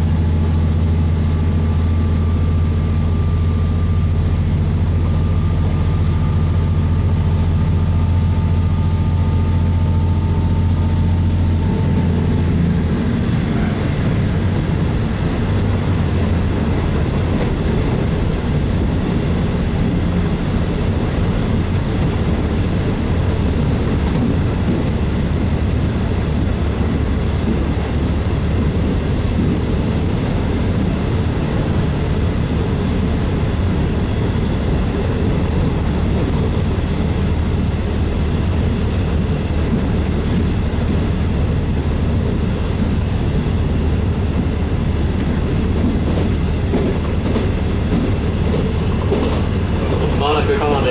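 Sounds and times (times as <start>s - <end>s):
diesel railcar engine drone: 0.0s - 50.9s
train rumbling running noise: 0.0s - 50.9s.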